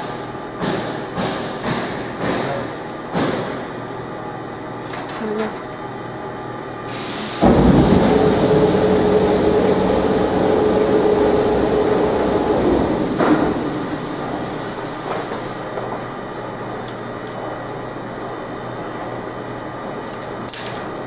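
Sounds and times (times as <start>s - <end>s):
machine hum with rushing air: 0.0s - 21.0s.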